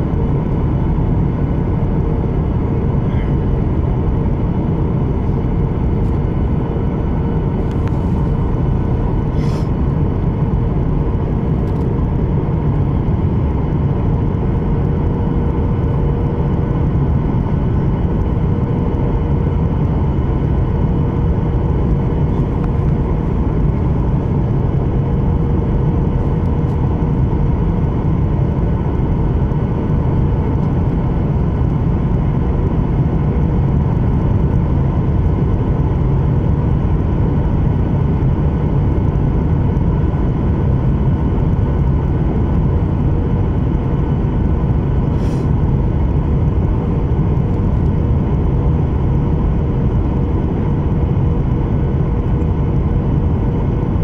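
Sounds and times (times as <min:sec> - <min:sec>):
jet engines and rushing air: 0:00.0 - 0:54.0.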